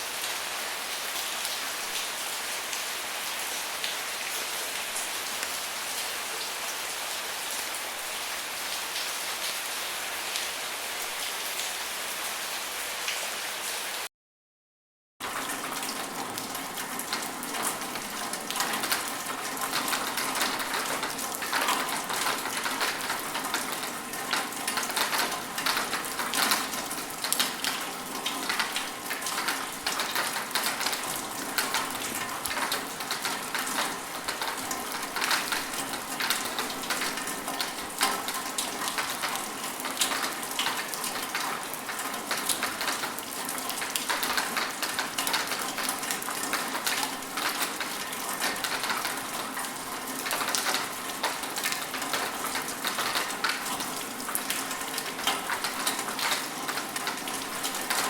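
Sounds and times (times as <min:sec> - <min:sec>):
rain falling: 0:00.0 - 0:14.1, 0:15.2 - 0:58.0.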